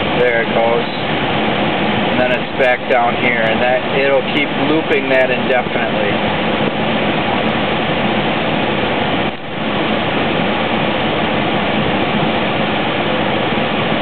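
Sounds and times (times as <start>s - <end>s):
air rushing from vents: 0.0s - 14.0s
car blower fan running: 0.0s - 14.0s.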